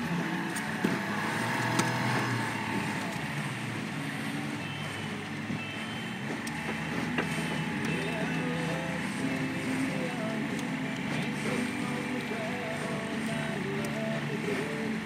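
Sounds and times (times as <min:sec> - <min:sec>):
outboard motor running: 0:00.0 - 0:15.0
water rushing along hull: 0:00.0 - 0:15.0.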